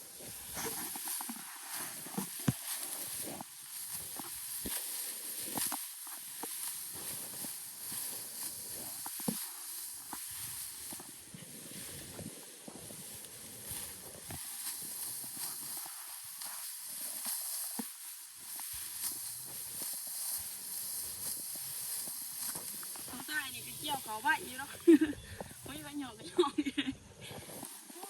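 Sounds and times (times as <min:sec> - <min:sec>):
rice stalks rustling: 0:00.0 - 0:28.0
steady high-pitched hiss: 0:00.0 - 0:28.0
sickle cutting stalks: 0:00.4 - 0:26.1.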